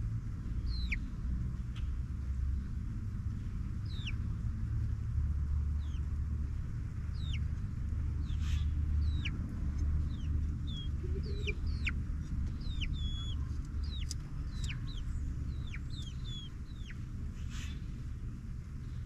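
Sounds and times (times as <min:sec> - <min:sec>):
steady low rumble: 0:00.0 - 0:19.0
young chickens peeping: 0:00.4 - 0:02.0, 0:02.6 - 0:04.5, 0:05.6 - 0:19.0.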